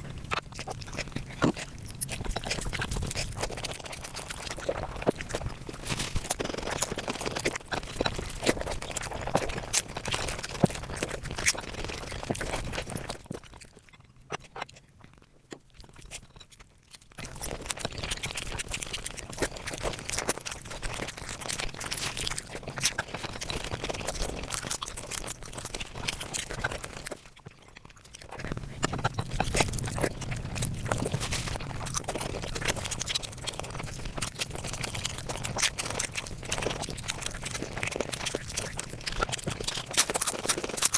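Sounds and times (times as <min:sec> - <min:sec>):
sped-up chewing and crunching: 0:00.0 - 0:40.9.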